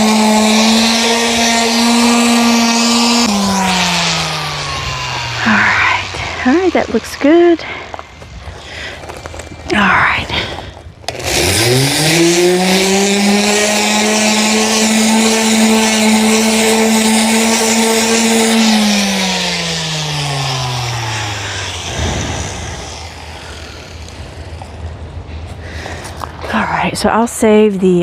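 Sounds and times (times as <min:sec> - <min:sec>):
electric orbital sander running: 0:00.0 - 0:26.4.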